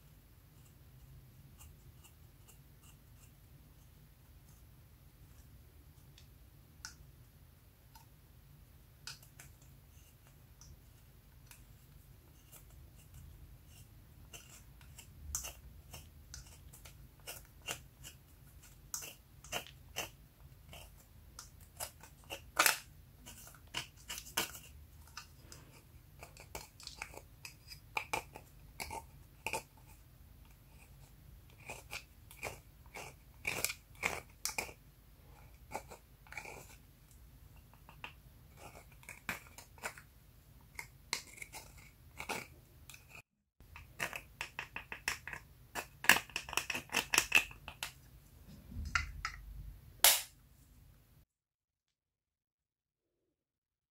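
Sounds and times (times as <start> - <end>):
spatula scraping makeup powder: 0.4 - 6.2, 9.0 - 48.0.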